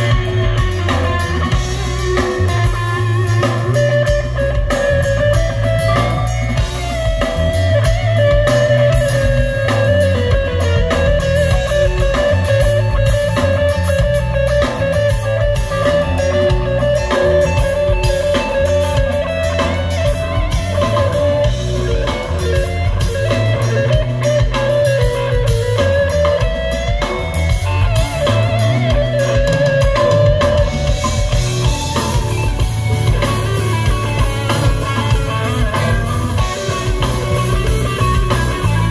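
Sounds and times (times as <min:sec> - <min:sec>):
bass guitar: 0:00.0 - 0:38.9
drum kit: 0:00.0 - 0:38.9
electric guitar lead line: 0:00.0 - 0:38.9.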